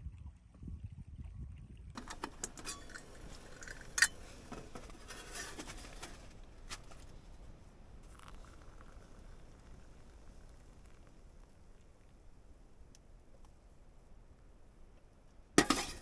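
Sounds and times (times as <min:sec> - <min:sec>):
handling noise crunching and rustling: 0:02.0 - 0:16.0.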